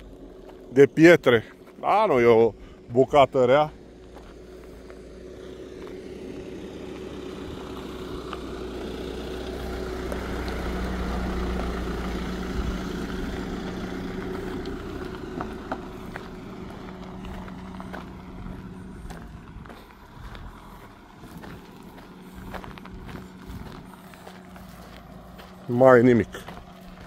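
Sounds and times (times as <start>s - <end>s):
car engine running at low speed: 0.0s - 27.0s.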